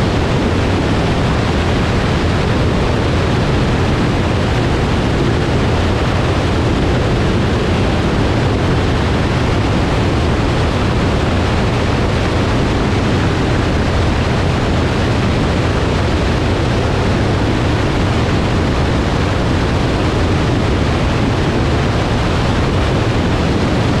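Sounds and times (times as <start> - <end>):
plane engine and propeller drone: 0.0 - 24.0
wind rushing over camera: 0.0 - 24.0.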